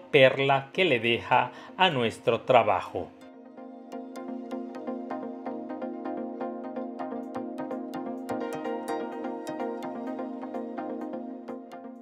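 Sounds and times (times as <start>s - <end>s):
background music with light ticks: 0.0s - 12.0s.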